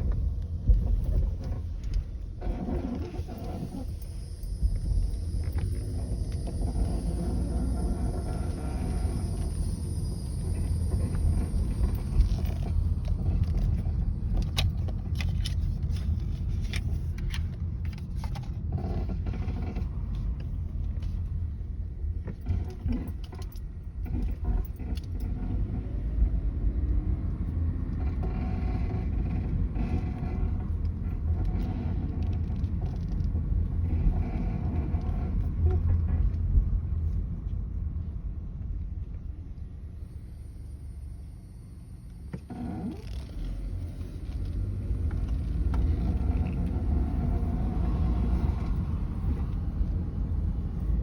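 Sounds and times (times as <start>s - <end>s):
steering clicks and knocks: 0.0s - 37.7s, 42.3s - 51.0s
car engine rumbling: 0.0s - 51.0s.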